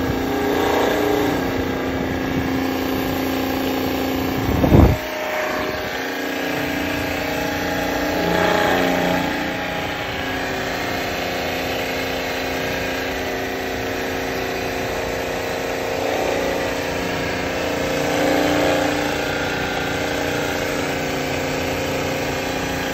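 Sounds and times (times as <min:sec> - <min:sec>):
pump humming: 0:00.0 - 0:22.9.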